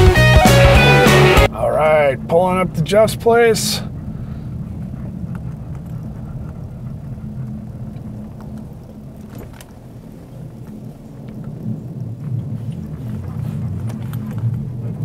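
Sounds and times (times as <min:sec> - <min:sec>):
engine and tyres drone in cabin: 0:00.0 - 0:15.0.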